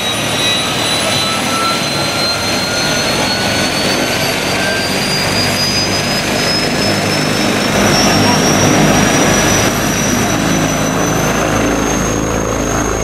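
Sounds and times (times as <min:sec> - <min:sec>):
helicopter engine and rotor noise: 0:00.0 - 0:13.0
high turbine whine: 0:00.0 - 0:13.0.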